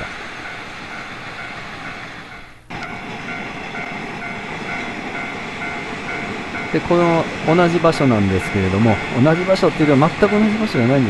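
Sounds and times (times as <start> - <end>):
passenger trains passing: 0.0 - 11.0.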